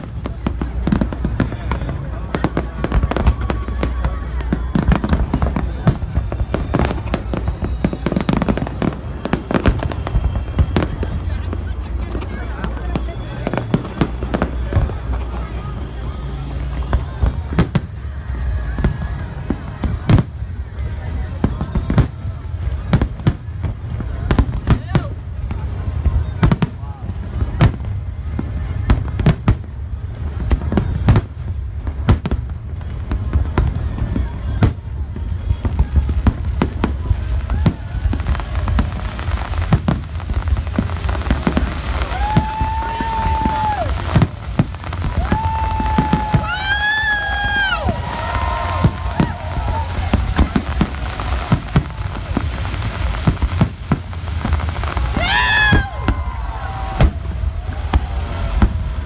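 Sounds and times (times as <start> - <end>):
fireworks bangs and cracks: 0.0 - 59.0
low rumble of fireworks: 0.0 - 59.0.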